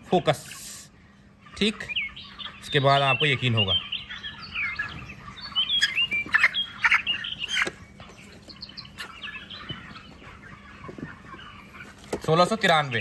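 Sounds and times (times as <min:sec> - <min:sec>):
bird chirps and gliding calls: 0:00.0 - 0:13.0.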